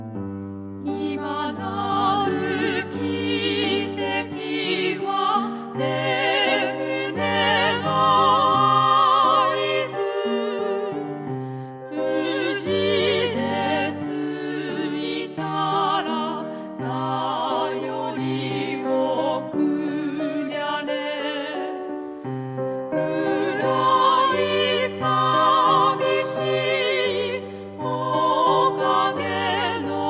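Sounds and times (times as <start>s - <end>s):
vocal group singing slowly: 0.9s - 22.1s, 22.9s - 30.0s.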